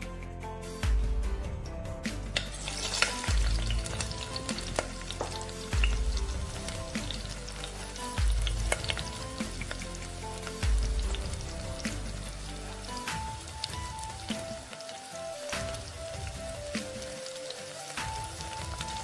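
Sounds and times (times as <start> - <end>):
background music with low beat: 0.0 - 19.0
potatoes sizzling in hot oil: 2.3 - 19.0.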